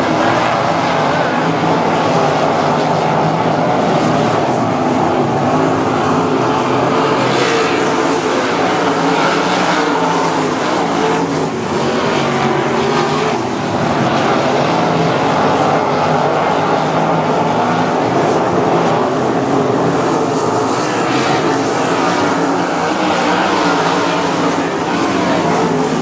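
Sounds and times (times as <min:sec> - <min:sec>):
race car engines running hard: 0:00.0 - 0:26.0.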